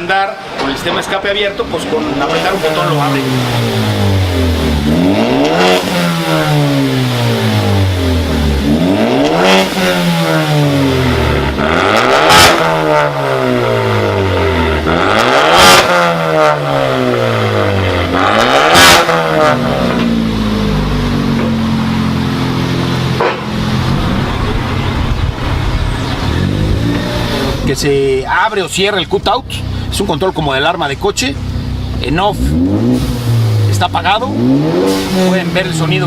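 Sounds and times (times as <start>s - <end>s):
car engine revving: 0.0s - 36.0s
exhaust crack: 0.0s - 36.0s.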